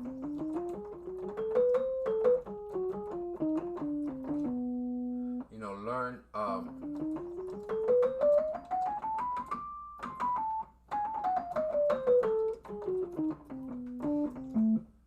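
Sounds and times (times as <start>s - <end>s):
piano playing scale: 0.0s - 14.9s.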